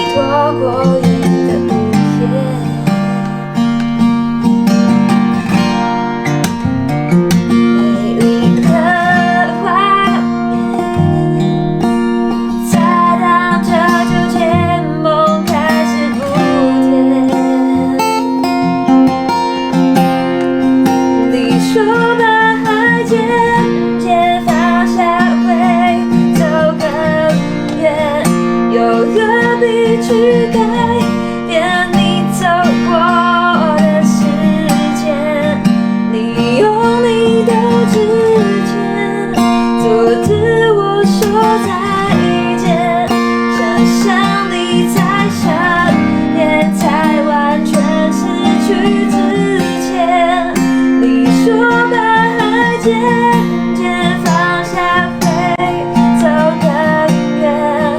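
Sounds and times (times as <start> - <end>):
person singing: 0.0 - 3.9, 7.1 - 19.7, 20.9 - 57.9
acoustic guitar strumming: 0.0 - 57.9.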